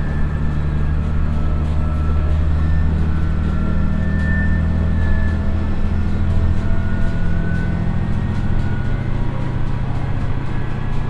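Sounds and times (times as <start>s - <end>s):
diesel engine low drone: 0.0s - 11.0s
transmission whining: 0.0s - 11.0s.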